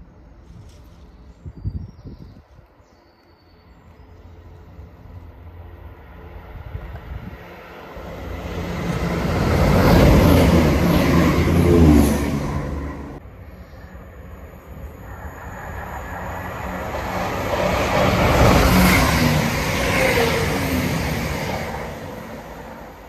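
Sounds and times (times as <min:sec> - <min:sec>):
diesel train passing: 0:03.5 - 0:23.0.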